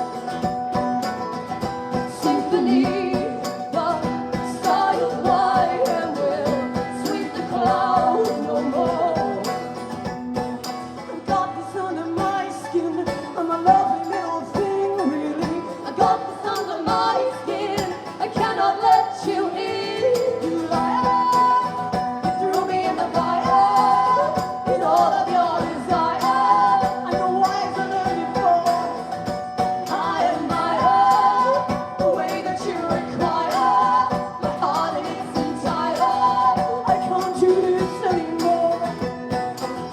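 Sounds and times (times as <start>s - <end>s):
live band with guitars: 0.0s - 39.9s
women singing: 0.0s - 39.9s.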